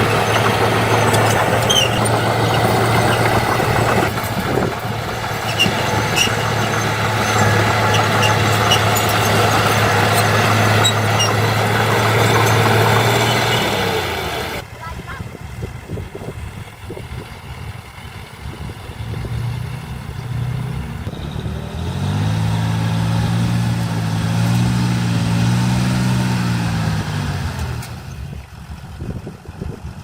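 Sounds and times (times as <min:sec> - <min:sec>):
heavy diesel engine revving: 0:00.0 - 0:30.0.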